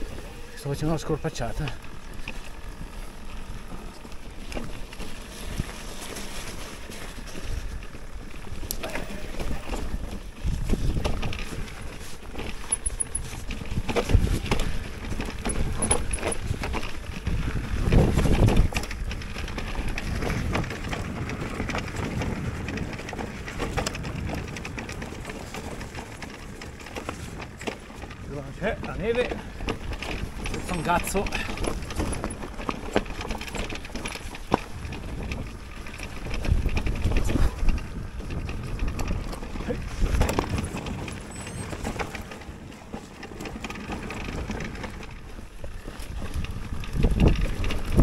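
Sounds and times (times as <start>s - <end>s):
bike clicks and rattles: 0.0s - 48.0s
bike tyres on muddy snow trail: 0.0s - 48.0s.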